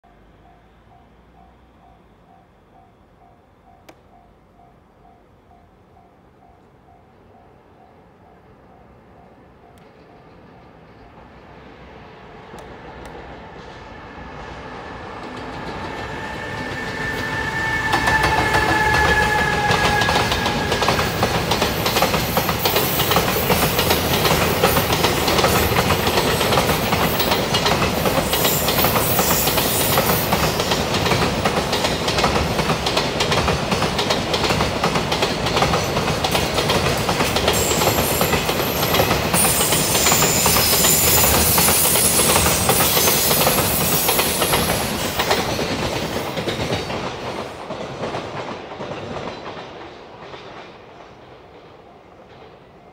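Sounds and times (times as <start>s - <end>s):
freight train rolling past: 0.0s - 52.9s
clickety-clack of wheels on rail joints: 9.2s - 52.9s.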